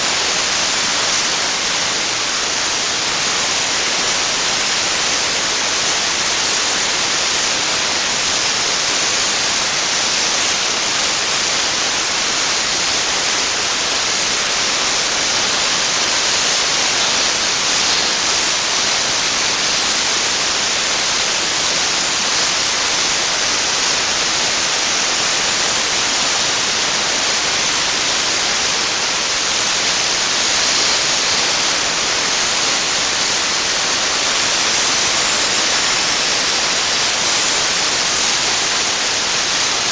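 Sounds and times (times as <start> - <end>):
dry ice blasting gun hissing: 0.0 - 39.9.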